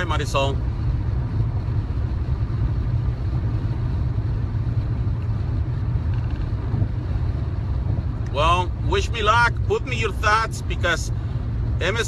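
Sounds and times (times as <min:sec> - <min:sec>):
low rumble background noise: 0:00.0 - 0:12.0.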